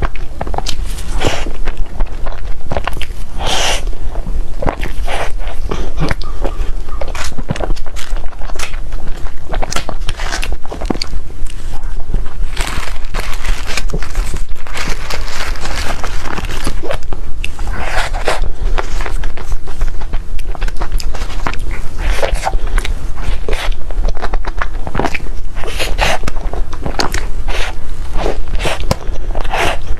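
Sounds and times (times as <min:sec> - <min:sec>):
chewing crunches: 0:00.0 - 0:29.9
steady low hum: 0:00.0 - 0:29.9.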